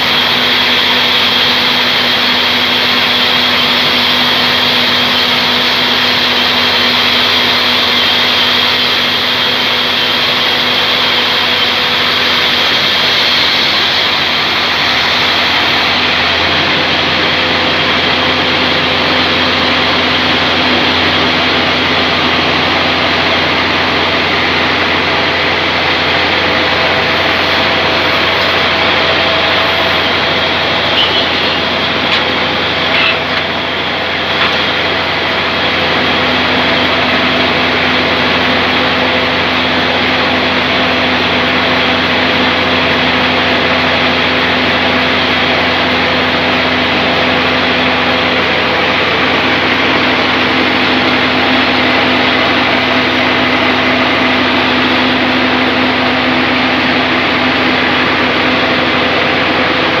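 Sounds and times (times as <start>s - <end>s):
sawmill machinery drone: 0.0s - 60.0s
steady machine tone: 0.0s - 60.0s.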